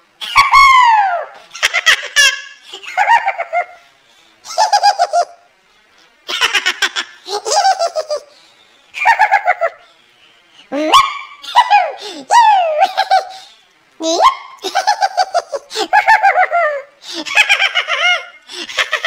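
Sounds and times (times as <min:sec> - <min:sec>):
high-pitched cartoon giggle: 0:00.2 - 0:05.5, 0:06.3 - 0:08.3, 0:09.0 - 0:09.8, 0:10.8 - 0:19.0.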